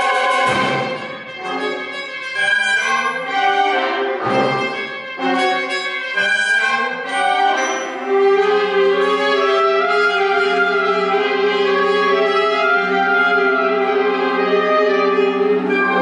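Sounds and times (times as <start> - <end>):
wind ensemble playing: 0.0 - 16.0.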